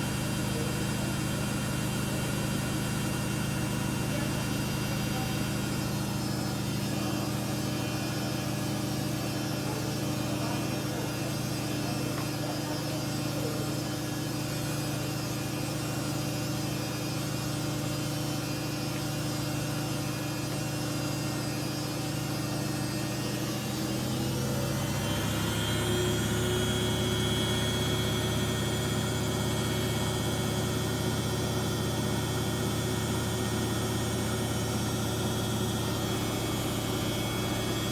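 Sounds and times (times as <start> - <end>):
washing machine spin hum: 0.0 - 37.9.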